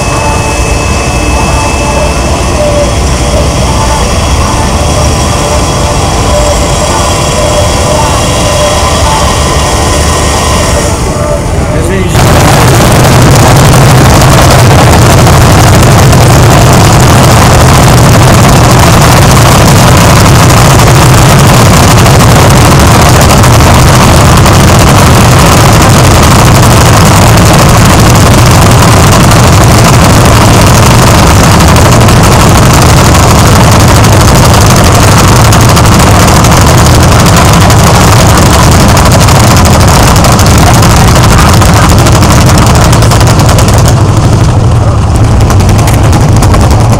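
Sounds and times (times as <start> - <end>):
tractor engines running: 0.0 - 46.9.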